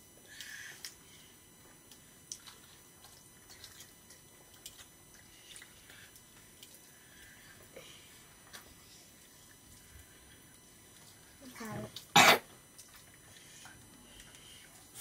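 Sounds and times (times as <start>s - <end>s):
chewing: 1.6s - 15.0s.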